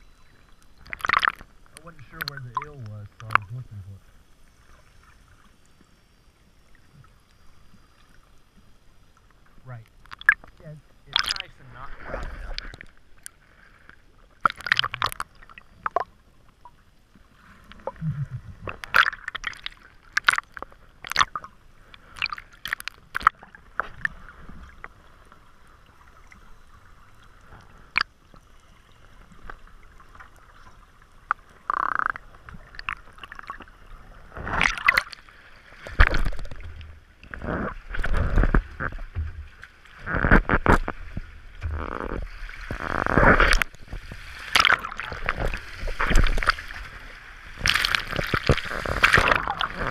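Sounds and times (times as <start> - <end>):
underwater bubbles gurgling: 0.0 - 5.6, 6.6 - 49.9.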